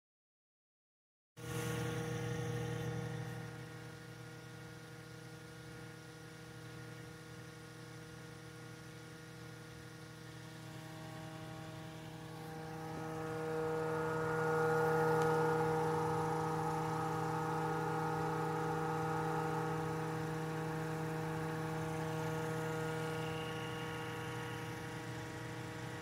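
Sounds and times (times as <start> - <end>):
electrical motor hum: 1.4 - 26.0.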